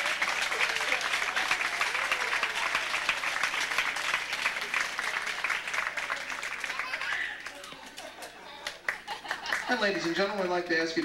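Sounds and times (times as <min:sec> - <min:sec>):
people applauding: 0:00.0 - 0:11.0.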